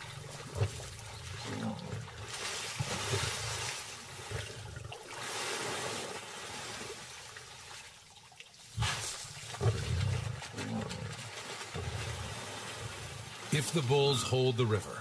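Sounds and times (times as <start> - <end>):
water splashing and churning: 0.0 - 15.0.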